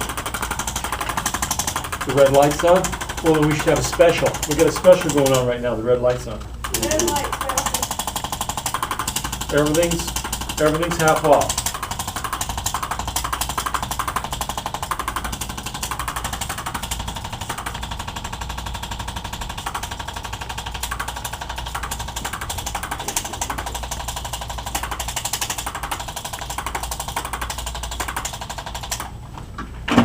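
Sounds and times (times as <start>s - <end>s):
percussion massager hammering: 0.0s - 5.5s, 6.6s - 29.1s.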